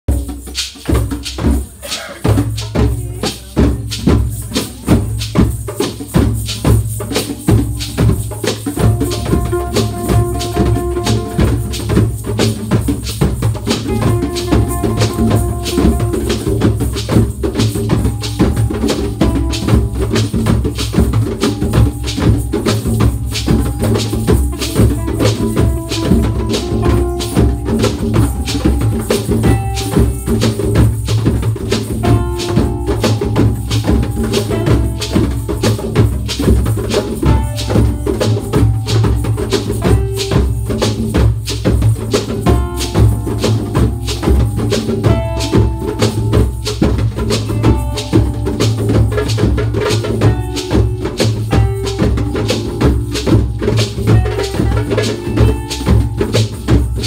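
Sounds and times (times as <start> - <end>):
hand drums playing fast rhythm: 0.0 - 57.0
held melody line: 4.7 - 57.0.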